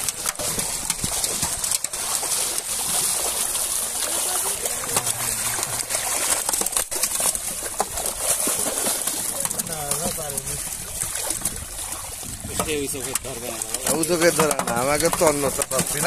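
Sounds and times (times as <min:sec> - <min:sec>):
fish thrashing in water: 0:00.0 - 0:16.0
water splashing and trickling: 0:00.0 - 0:16.0.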